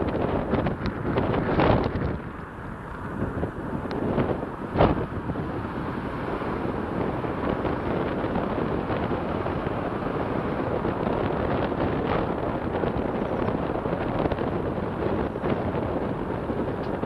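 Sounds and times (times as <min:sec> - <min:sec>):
outdoor noise rush: 0:00.0 - 0:17.0
wind buffeting microphone: 0:00.0 - 0:17.0.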